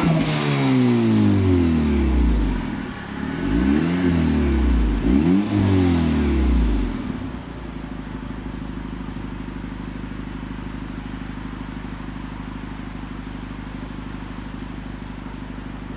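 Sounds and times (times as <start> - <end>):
car engine revving and idling: 0.0 - 15.9.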